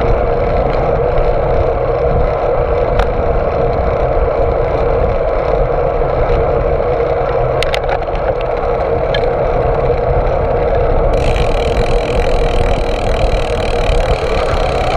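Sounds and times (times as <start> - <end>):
bicycle road noise: 0.0 - 14.9
wind noise: 0.0 - 14.9.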